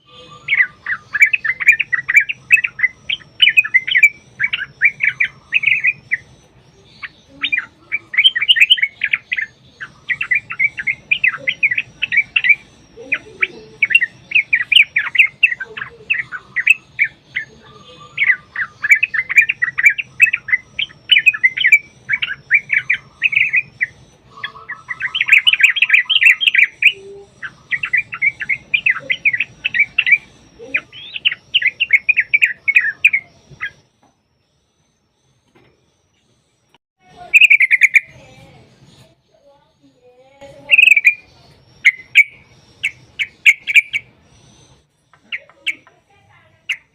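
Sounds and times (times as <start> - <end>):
bird singing chattering phrases: 0.0 - 46.9.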